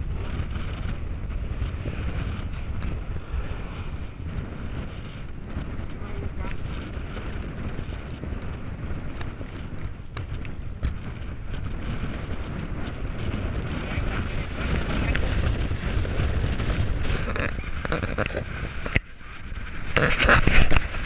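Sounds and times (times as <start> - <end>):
road rumble: 0.0 - 21.0
wind rushing over microphone: 0.0 - 21.0.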